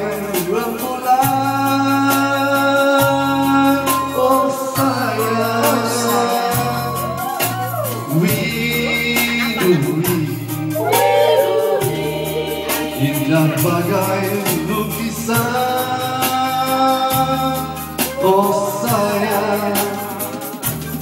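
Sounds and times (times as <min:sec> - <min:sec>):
bass line: 0:00.0 - 0:21.0
person singing live: 0:00.0 - 0:21.0
steady drum beat: 0:00.0 - 0:21.0.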